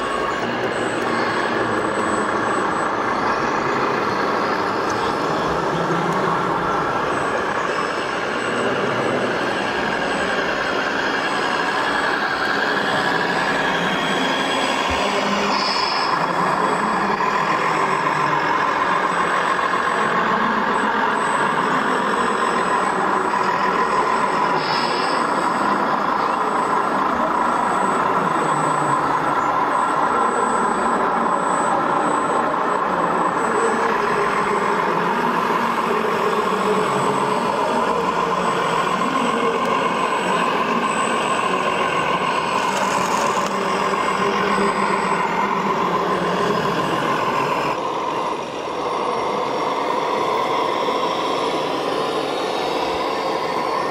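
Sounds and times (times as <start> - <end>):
busy hall din: 0.0 - 53.9
toy truck engine sound: 0.0 - 53.9.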